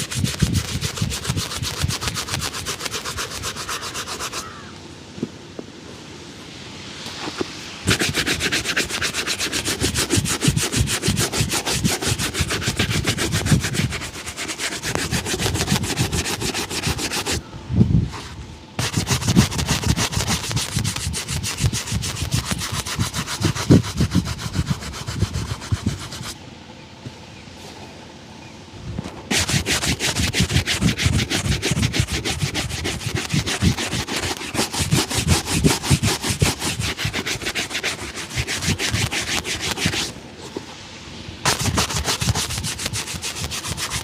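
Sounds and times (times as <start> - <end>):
rubbing strokes buffing a shoe: 0.0 - 4.6, 7.1 - 17.4, 18.1 - 26.4, 29.3 - 40.6, 41.4 - 44.0.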